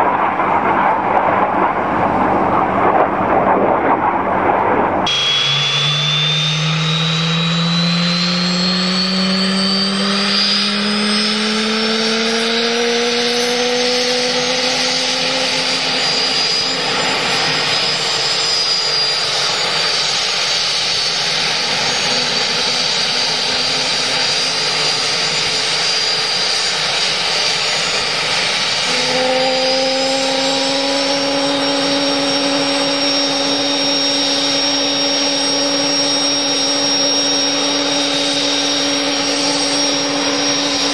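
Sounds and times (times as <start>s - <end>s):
turbine engine whining: 0.0s - 40.9s.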